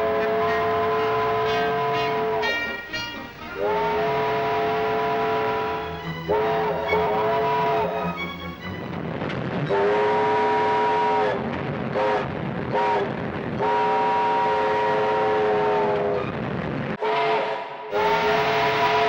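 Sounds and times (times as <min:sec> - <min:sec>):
steam locomotive whistle: 0:00.0 - 0:08.8, 0:09.7 - 0:16.2, 0:17.0 - 0:19.0
moving train noise: 0:00.0 - 0:19.0.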